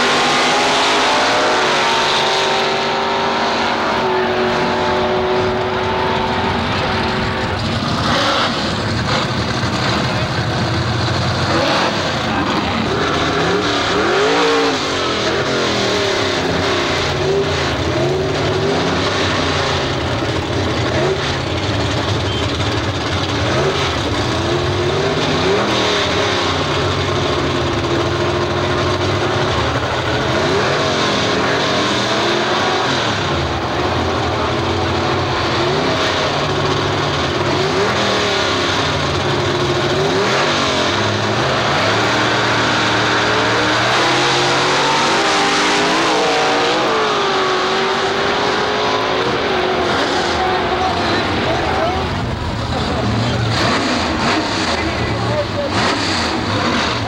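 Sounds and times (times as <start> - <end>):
drag racing car engines revving: 0.0 - 57.0.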